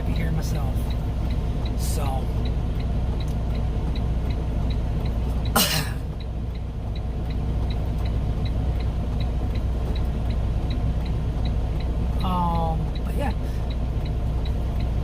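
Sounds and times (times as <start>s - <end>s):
diesel engine idling: 0.0s - 15.0s
light regular ticking: 0.0s - 15.0s.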